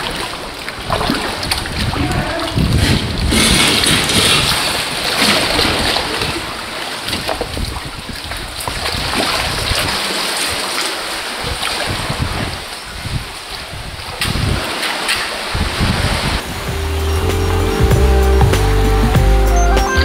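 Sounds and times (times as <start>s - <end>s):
water lapping against hull and rock: 0.0s - 16.6s
paddle strokes splashing: 0.0s - 16.8s
wind buffeting microphone: 0.0s - 17.0s.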